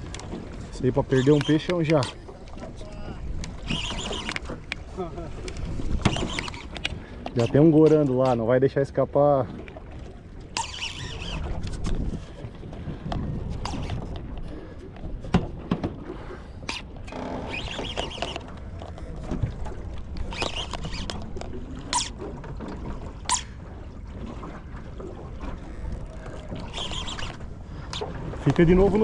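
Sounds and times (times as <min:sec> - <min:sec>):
wind rumbling on microphone: 0:00.0 - 0:07.8, 0:10.8 - 0:29.0
water slapping against boat hull: 0:00.0 - 0:29.0.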